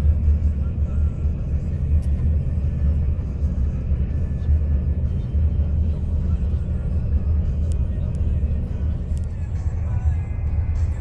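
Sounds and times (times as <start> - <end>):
bus engine and tyre rumble: 0.0 - 11.0.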